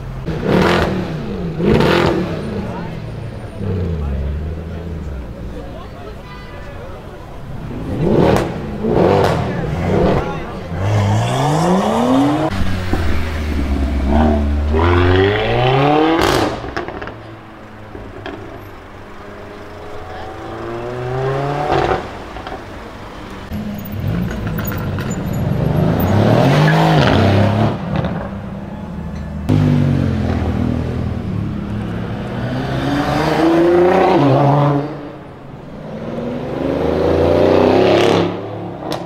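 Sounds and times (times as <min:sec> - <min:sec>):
car engines revving and accelerating: 0:00.0 - 0:39.0.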